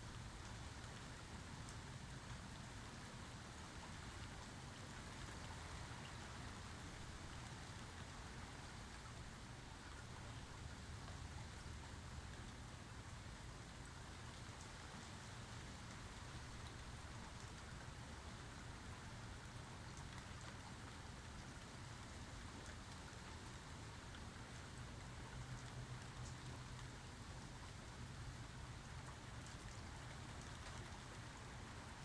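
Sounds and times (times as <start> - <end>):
rain hiss: 0.0 - 32.0.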